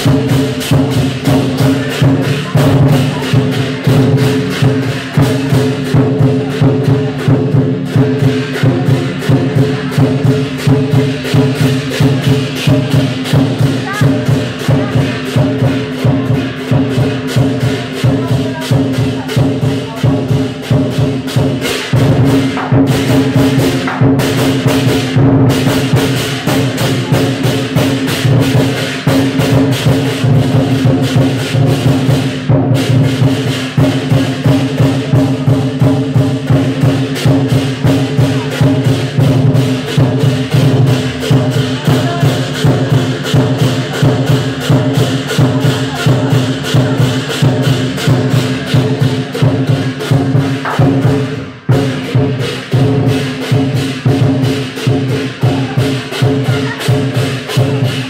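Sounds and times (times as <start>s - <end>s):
big drum beating fast: 0.0s - 58.0s
cymbals crashing: 0.0s - 58.0s.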